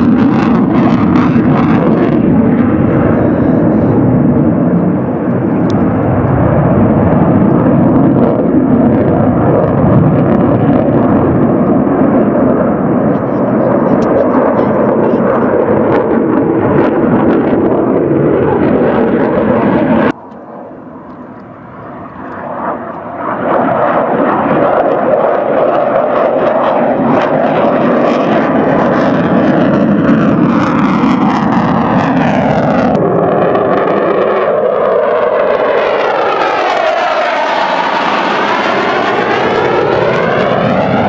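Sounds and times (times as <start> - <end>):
aircraft flying past: 0.0 - 41.0.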